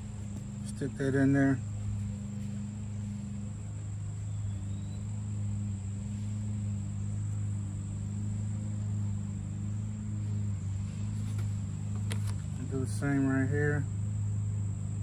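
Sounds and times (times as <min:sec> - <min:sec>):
high whine: 0:00.0 - 0:15.0
low machine hum: 0:00.0 - 0:15.0.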